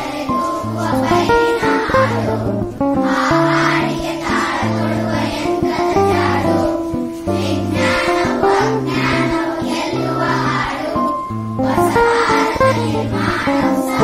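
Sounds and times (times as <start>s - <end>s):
girls singing together: 0.0s - 14.0s
held low accompanying notes: 0.0s - 14.0s.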